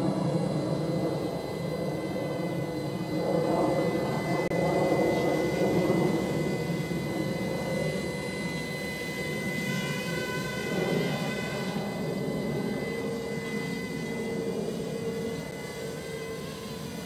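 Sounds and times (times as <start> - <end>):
drone propellers whirring: 0.0 - 17.0.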